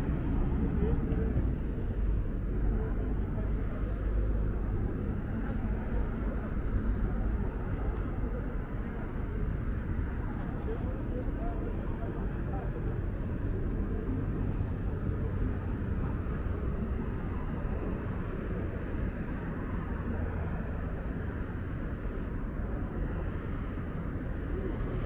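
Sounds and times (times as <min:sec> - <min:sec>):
low rumble of road traffic: 0:00.0 - 0:25.0.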